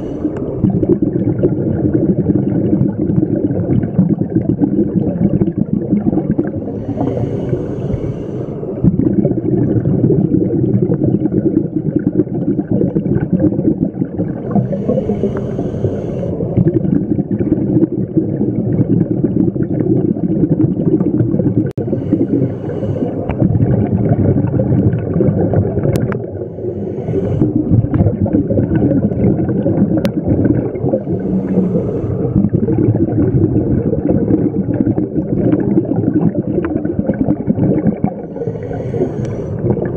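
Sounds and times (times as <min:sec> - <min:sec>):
bubbling of exhaled air underwater: 0:00.0 - 0:39.9.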